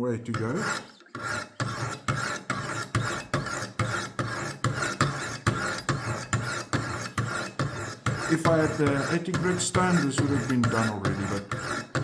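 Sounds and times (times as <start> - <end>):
stone rasping on knife edge: 0.2 - 12.0.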